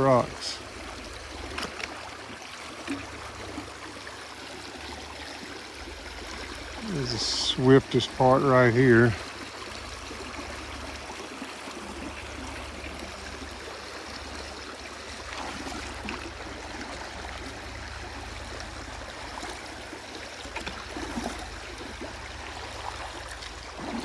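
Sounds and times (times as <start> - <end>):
creek rushing over rocks: 0.0 - 24.0
water splashes: 0.0 - 24.0.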